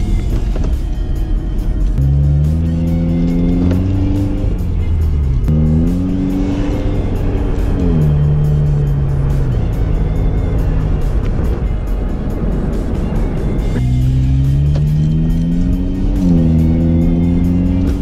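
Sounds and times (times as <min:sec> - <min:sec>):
car engine revving inside cabin: 0:01.8 - 0:18.0.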